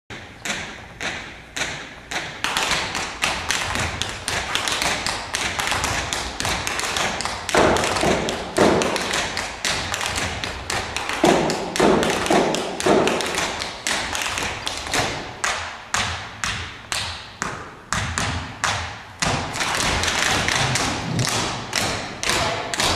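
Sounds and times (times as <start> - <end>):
feet tapping and stamping on stage: 0.1 - 22.9.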